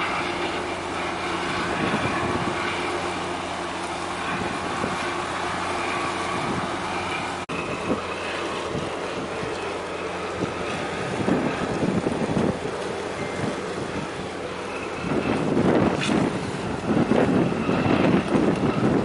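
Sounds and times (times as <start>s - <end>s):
low hum of ship engines: 0.0s - 19.0s
wind buffeting microphone: 0.0s - 19.0s.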